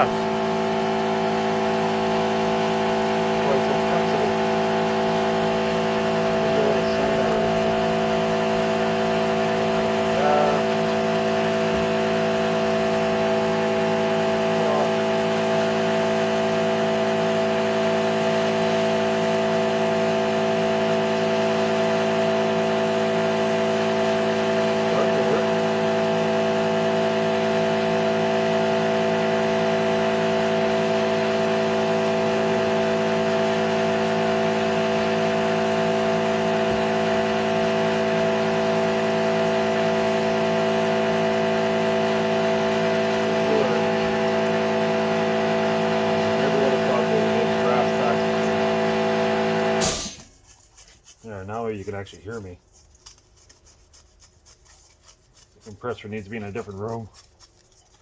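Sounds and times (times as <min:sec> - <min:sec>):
air compressor humming: 0:00.0 - 0:50.5.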